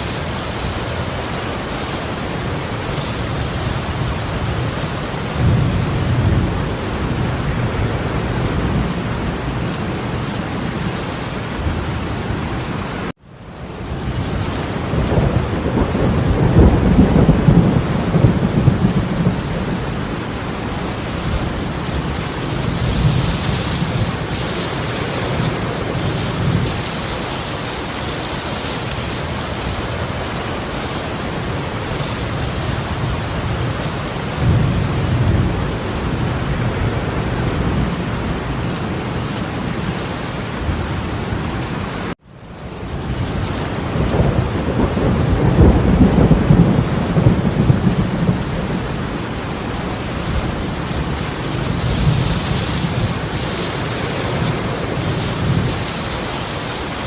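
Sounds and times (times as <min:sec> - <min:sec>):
torrential rain pouring: 0:00.0 - 0:57.0.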